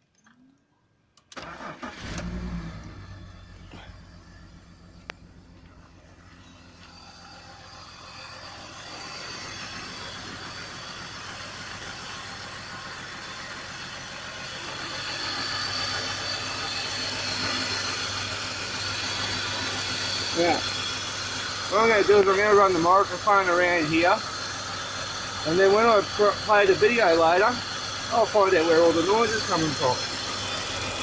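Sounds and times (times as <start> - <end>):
car engine idling: 1.4 - 31.0.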